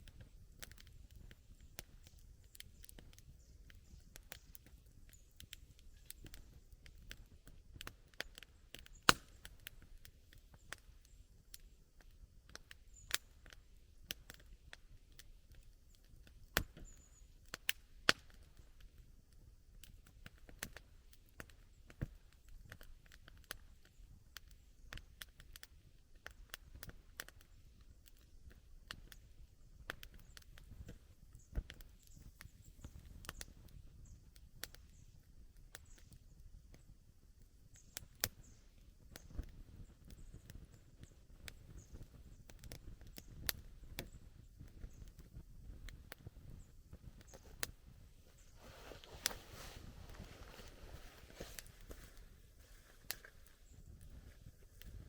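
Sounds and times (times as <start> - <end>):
campfire crackling: 0.0 - 55.0
fire popping: 0.0 - 55.0.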